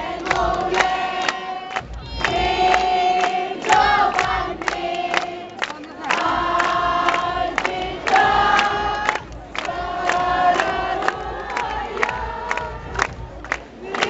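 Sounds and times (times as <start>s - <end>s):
crowd singing together: 0.0s - 14.0s.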